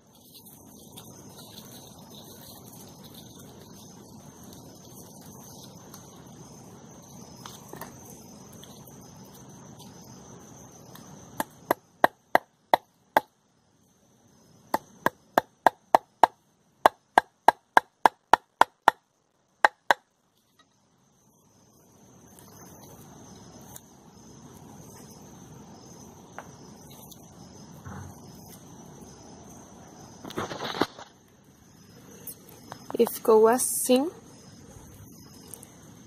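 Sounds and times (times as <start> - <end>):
insect chirring: 0.0 - 36.0.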